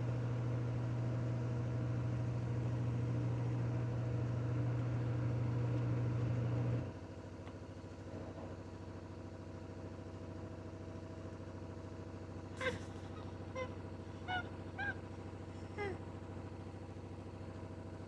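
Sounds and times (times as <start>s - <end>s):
washing machine spin cycle: 0.0s - 18.0s.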